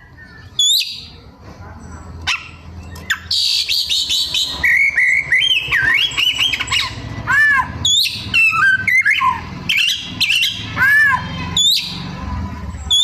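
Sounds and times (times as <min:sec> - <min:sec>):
bird singing varied song: 0:00.0 - 0:01.2, 0:02.3 - 0:12.1, 0:12.8 - 0:13.0.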